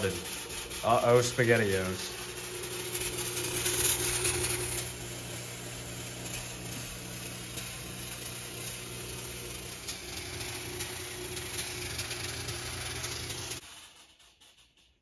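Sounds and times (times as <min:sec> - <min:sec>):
fog machine pump buzzing: 0:00.0 - 0:13.7.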